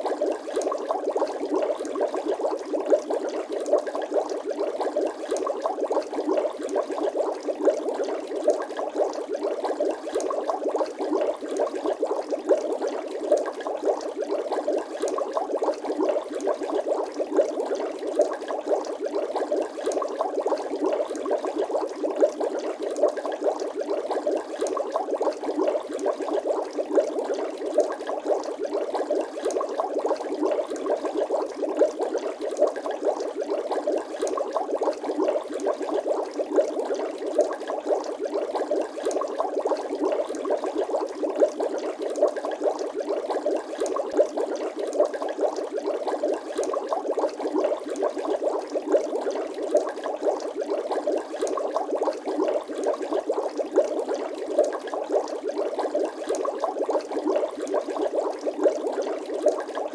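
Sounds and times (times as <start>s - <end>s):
bubbling water: 0.0s - 59.9s.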